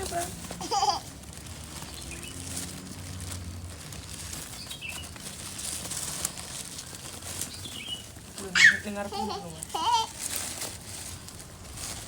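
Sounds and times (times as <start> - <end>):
pigeons fluttering: 0.0 - 11.2.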